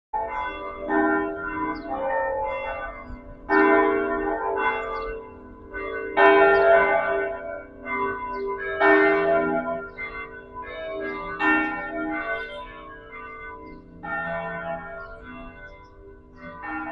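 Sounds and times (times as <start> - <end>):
church bells ringing: 0.2 - 16.9.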